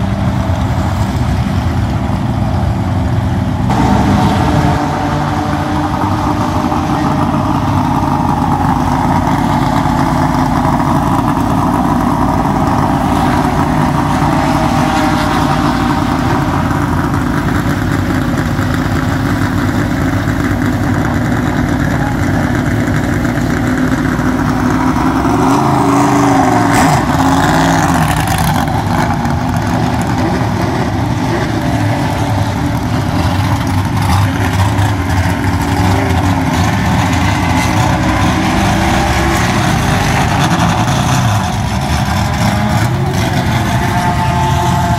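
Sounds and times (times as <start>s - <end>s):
racing car engines idling: 0.0s - 44.9s.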